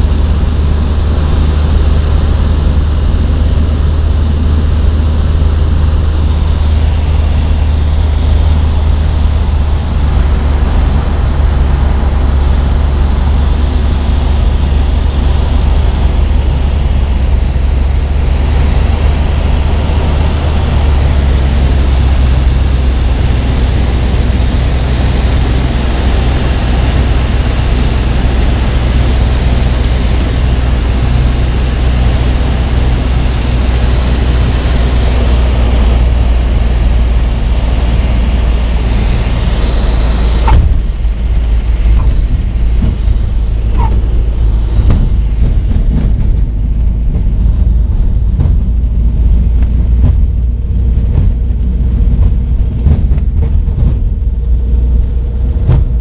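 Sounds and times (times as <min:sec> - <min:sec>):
aircraft engine and propeller droning: 0:00.0 - 0:56.0
wind noise: 0:00.0 - 0:56.0.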